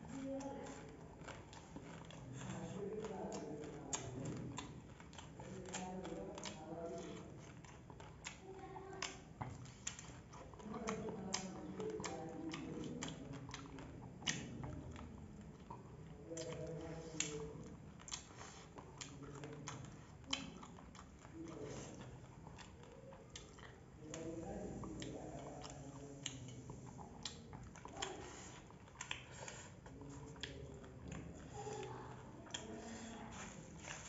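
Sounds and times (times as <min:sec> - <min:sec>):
faint background voices: 0:00.0 - 0:34.0
person chewing crisp food: 0:00.0 - 0:34.0.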